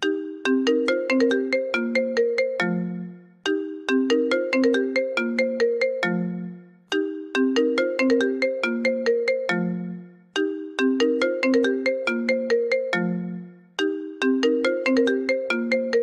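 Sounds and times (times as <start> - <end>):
phone ringtone marimba melody: 0.0 - 16.0.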